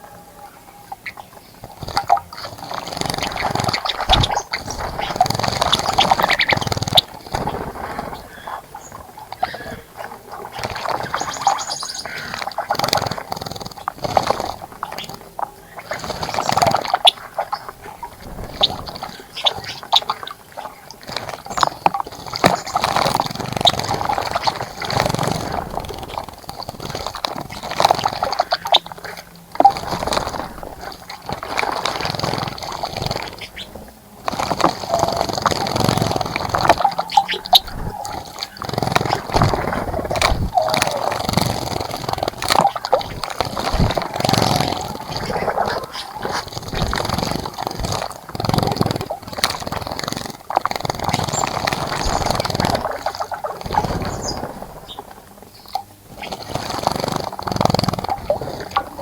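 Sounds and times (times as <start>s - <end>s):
birds splashing in water: 0.0s - 59.0s.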